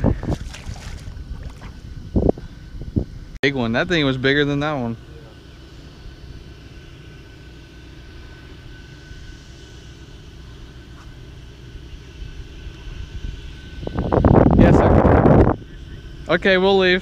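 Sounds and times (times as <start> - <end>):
distant engine drone: 0.0 - 17.0
faint high whine: 0.0 - 17.0.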